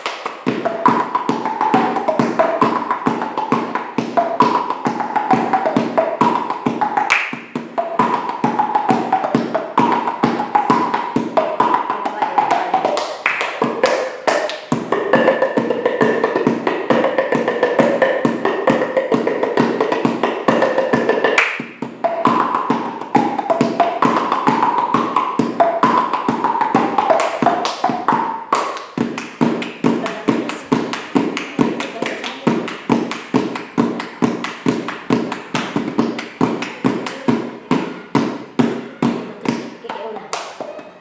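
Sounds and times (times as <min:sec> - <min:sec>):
music with fast tapping beat: 0:00.0 - 0:41.0.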